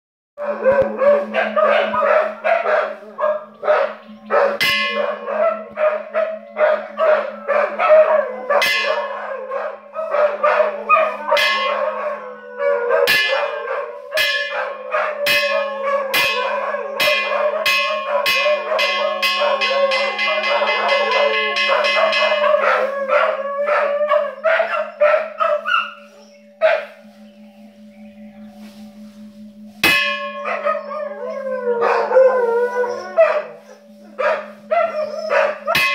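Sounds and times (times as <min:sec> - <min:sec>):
dogs howling: 0:00.4 - 0:27.0, 0:30.2 - 0:35.9
large bell ringing: 0:00.4 - 0:35.9.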